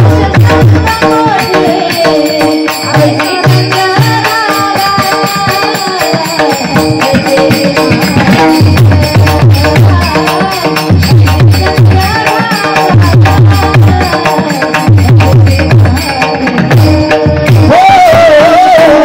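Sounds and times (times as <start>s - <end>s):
shaker-like percussion: 0.0s - 19.0s
women singing devotional song: 0.0s - 19.0s.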